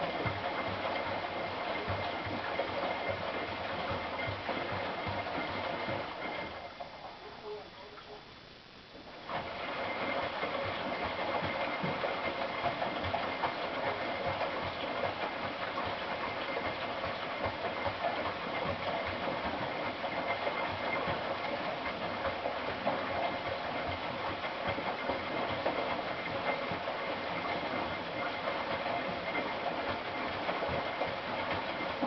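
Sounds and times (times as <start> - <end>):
washing machine whirring: 0.0 - 32.0.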